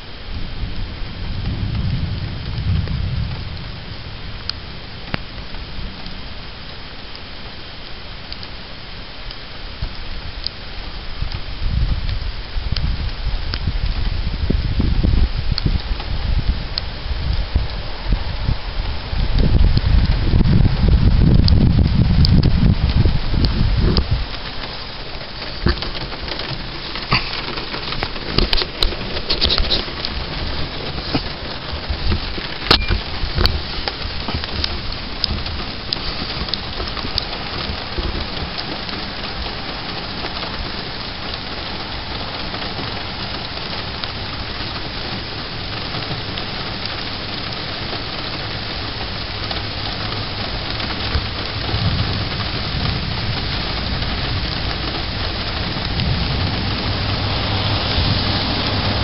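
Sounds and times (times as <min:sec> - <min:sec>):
heavy rain falling: 0:00.0 - 0:59.0
low thunder rumble: 0:00.0 - 0:59.0
raindrop impacts: 0:00.0 - 0:59.0.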